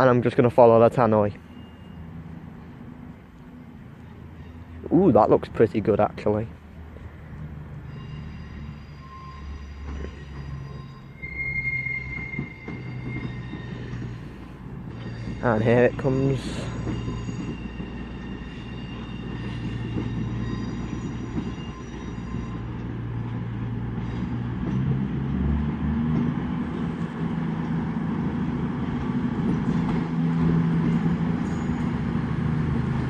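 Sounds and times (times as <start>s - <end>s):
diesel train engines droning: 0.0s - 33.0s.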